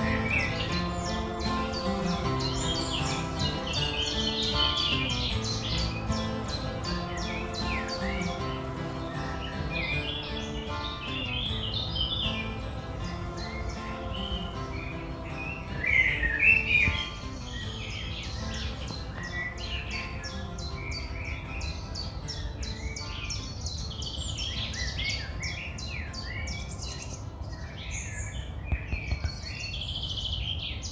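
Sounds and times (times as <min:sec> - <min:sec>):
faint music: 0:00.0 - 0:30.9
small birds chirping and singing: 0:00.0 - 0:30.9.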